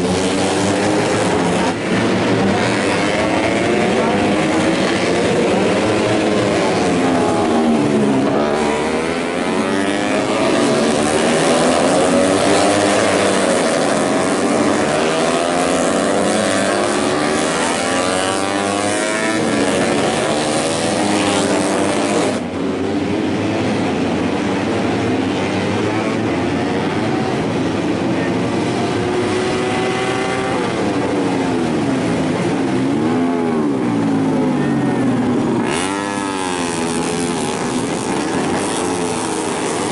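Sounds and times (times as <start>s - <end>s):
motorcycle engines revving past: 0.0s - 39.9s.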